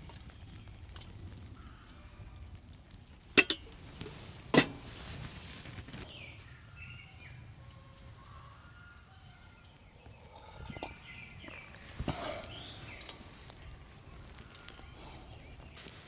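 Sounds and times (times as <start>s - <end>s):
low steady background noise: 0.0s - 16.0s.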